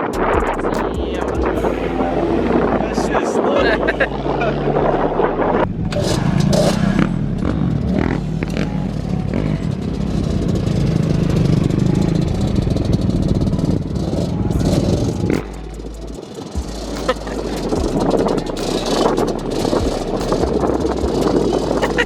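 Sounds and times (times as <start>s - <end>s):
car engine exhaust rough pulsing: 0.0s - 22.0s.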